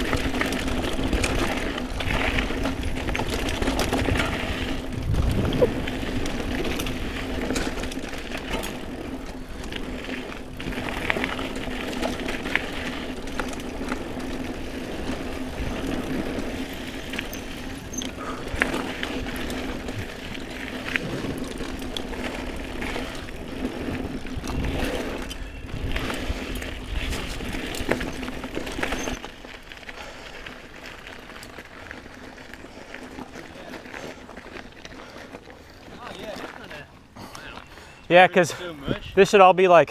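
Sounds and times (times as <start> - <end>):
bike rattling over bumps: 0.0 - 38.0
bike tires on dirt trail: 0.0 - 39.9.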